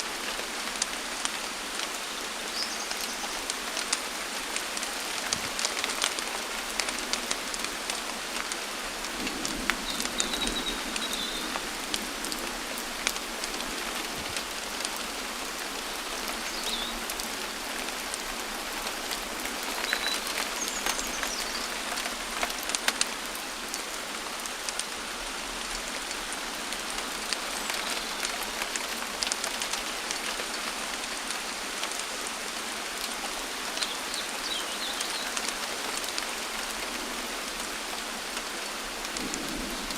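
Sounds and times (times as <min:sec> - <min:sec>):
steady rain: 0:00.0 - 0:39.9
raindrops ticking close by: 0:00.1 - 0:39.9.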